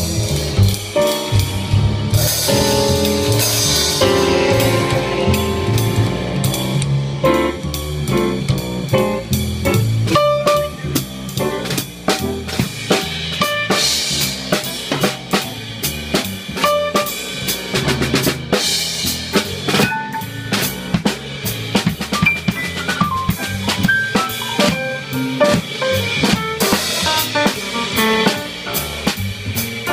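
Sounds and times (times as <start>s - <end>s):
snare and bass drum hits: 0.0s - 29.9s.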